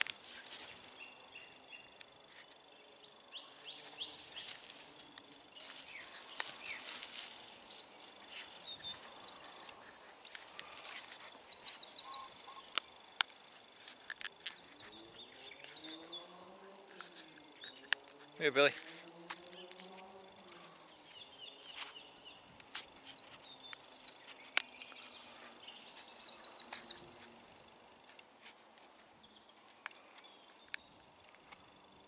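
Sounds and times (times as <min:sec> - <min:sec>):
birds singing: 0:00.0 - 0:32.0.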